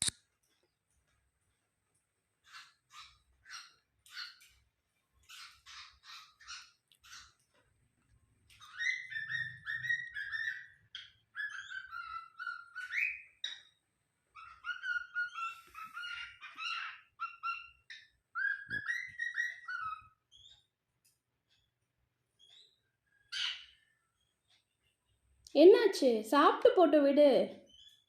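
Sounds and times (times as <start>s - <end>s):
bird chirping: 2.4s - 25.9s, 27.5s - 28.0s.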